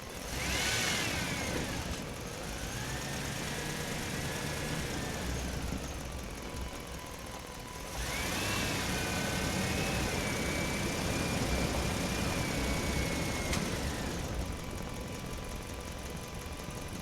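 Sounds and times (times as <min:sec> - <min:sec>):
engine low rumble: 0:01.0 - 0:17.0.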